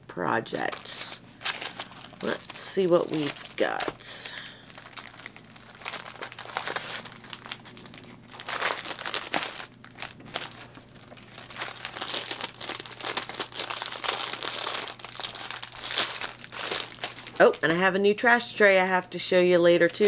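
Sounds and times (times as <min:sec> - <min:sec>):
plastic packaging crinkling: 0:00.5 - 0:18.0.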